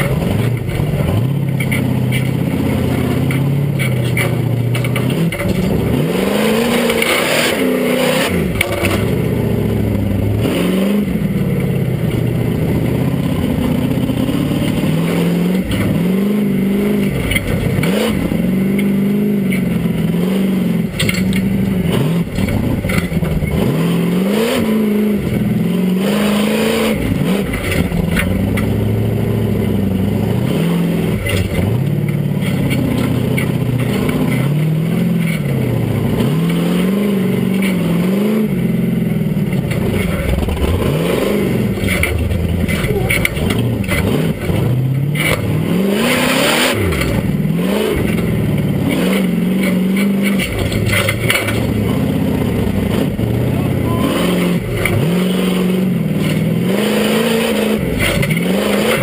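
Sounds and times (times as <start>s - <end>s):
chassis knocks and clatters: 0.0s - 10.1s, 11.2s - 20.2s, 20.8s - 24.2s, 26.8s - 53.6s, 54.2s - 59.0s
engine revving: 0.0s - 59.0s.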